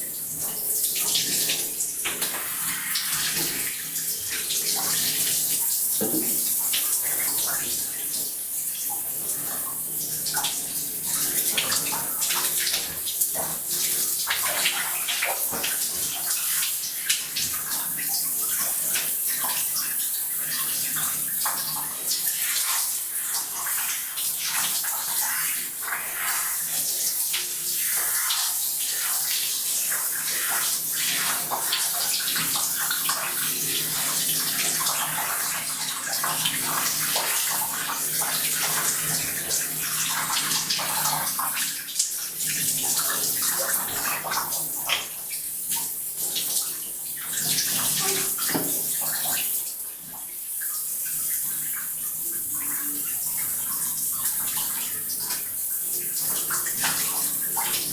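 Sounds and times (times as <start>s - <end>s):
shower water running into bathtub: 0.0s - 57.9s.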